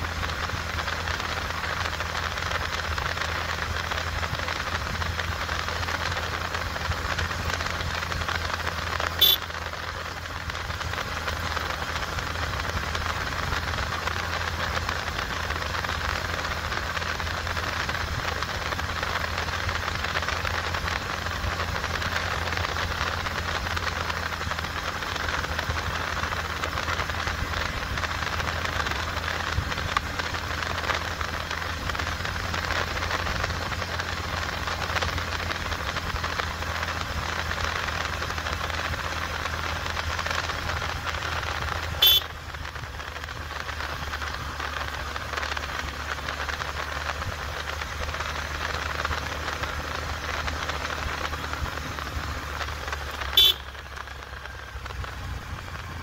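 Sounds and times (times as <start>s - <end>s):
small motorcycle engine running: 0.0s - 56.0s
wind and road noise: 0.0s - 56.0s.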